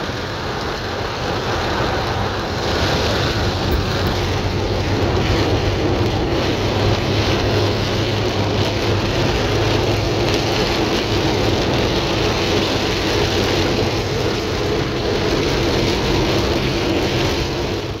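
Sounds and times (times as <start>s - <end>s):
engine and road noise hum: 0.0s - 18.0s
heavy rain on car windshield: 0.0s - 18.0s.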